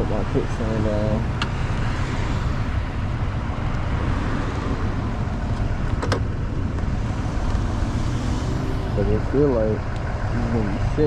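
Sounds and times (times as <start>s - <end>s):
road traffic idling rumble: 0.0s - 11.0s.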